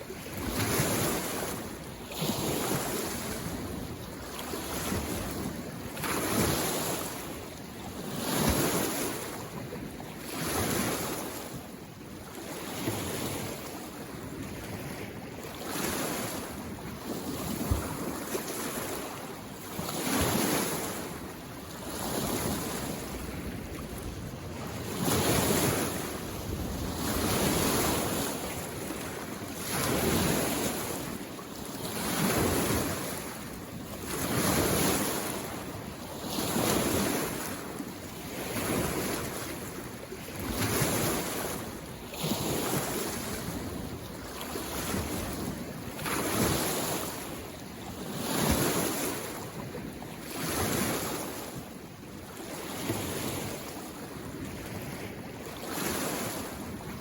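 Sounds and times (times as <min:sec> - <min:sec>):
lake waves washing ashore: 0:00.0 - 0:57.0.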